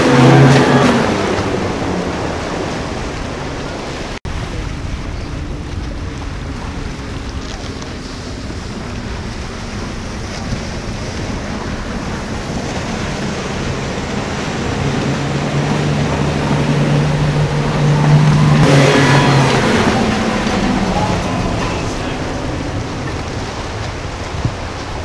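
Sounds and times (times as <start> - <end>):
motorboat engine: 0.0 - 25.0
water spray rushing: 0.0 - 25.0
waves: 0.0 - 25.0
wind buffeting microphone: 0.0 - 25.0.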